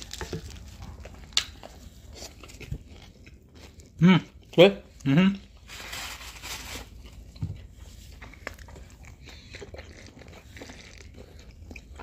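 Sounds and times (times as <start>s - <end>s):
people chewing pastry: 0.0s - 12.0s.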